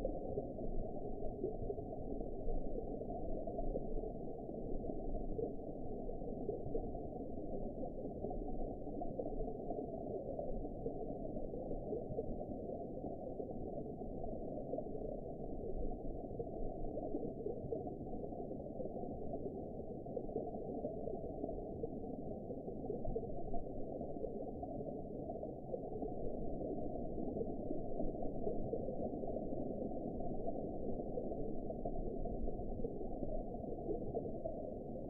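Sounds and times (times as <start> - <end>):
muffled underwater rush of water: 0.0 - 35.0.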